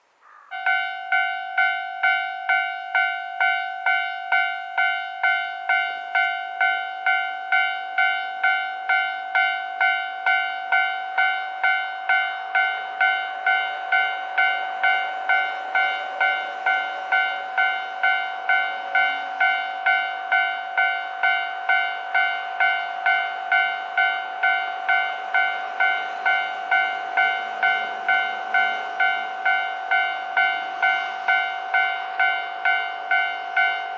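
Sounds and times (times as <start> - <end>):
level-crossing bell dinging: 0.5 - 33.9.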